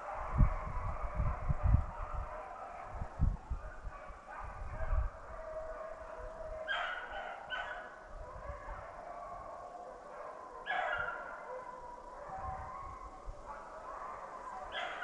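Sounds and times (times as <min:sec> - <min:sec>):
hounds baying in chorus: 0:00.0 - 0:15.0.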